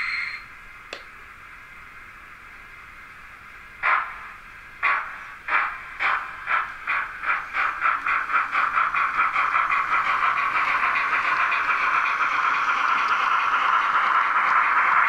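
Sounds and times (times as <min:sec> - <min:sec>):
model steam locomotive chuffs: 0:00.0 - 0:15.0.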